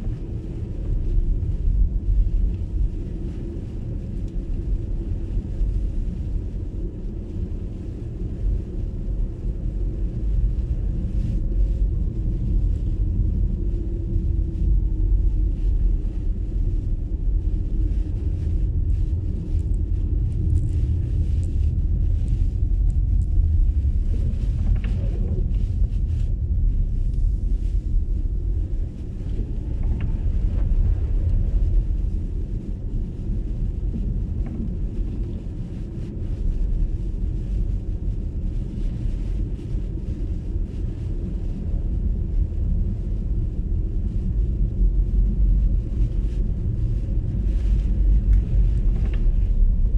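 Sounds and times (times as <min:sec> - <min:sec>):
car tyres rumbling on snow: 0:00.0 - 0:49.9.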